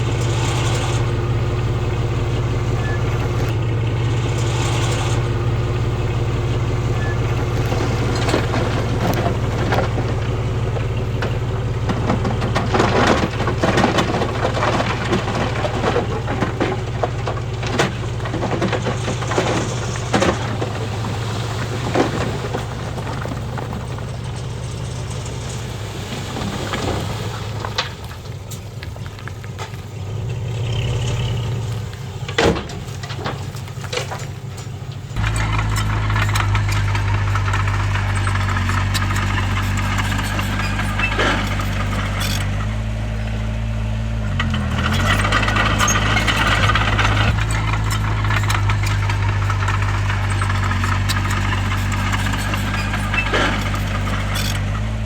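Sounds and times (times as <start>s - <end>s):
bulldozer diesel engine: 0.0s - 55.0s
clanks of machinery and stone: 6.5s - 30.1s, 30.7s - 43.2s, 44.3s - 55.0s.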